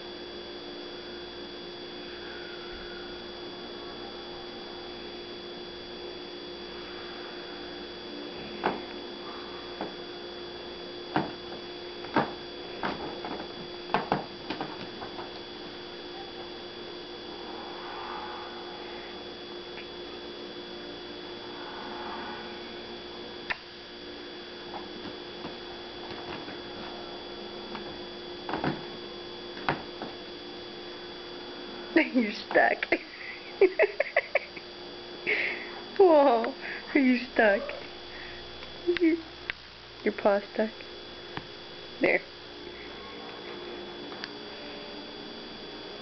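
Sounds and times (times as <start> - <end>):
electrical hum: 0.0 - 46.0.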